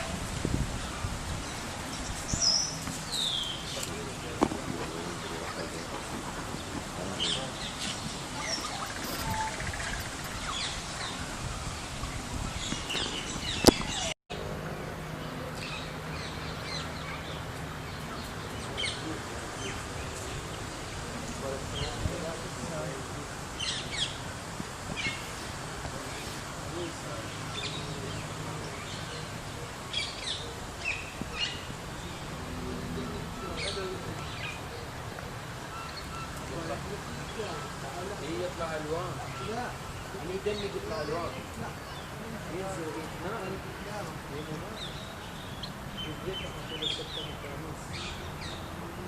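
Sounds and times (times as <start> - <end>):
birds chirping and calling: 0.0 - 14.2, 15.1 - 49.0
background noise: 0.0 - 49.0.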